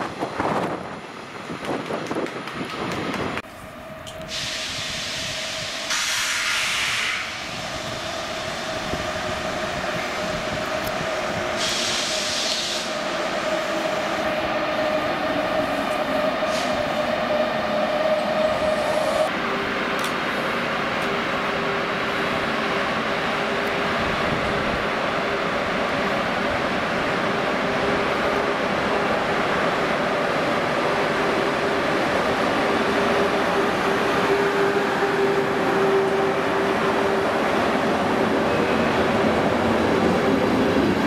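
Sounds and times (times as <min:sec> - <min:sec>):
electric locomotive whine: 0:00.0 - 0:41.0.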